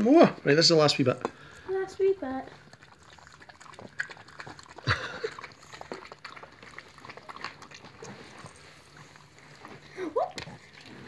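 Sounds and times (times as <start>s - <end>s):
animals lapping milk: 0.6s - 11.0s.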